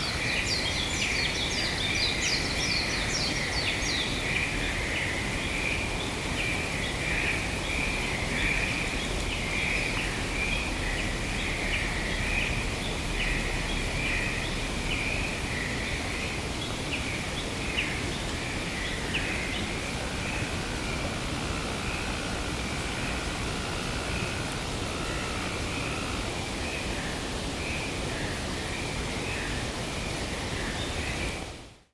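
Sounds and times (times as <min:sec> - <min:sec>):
wind hiss: 0:00.0 - 0:31.8.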